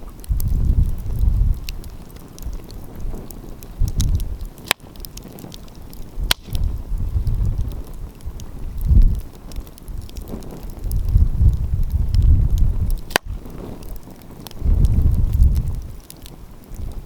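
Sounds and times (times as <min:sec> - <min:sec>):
wind rumbling on microphone: 0:00.0 - 0:17.0
wood fire crackling and popping: 0:00.0 - 0:17.0.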